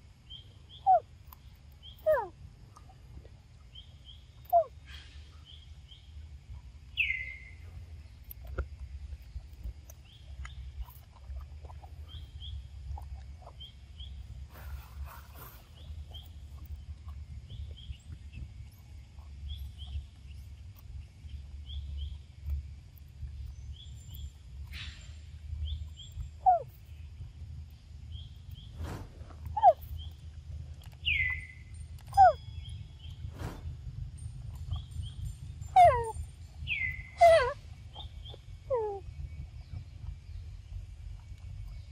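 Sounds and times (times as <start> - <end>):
steady low rumble: 0.0 - 41.9.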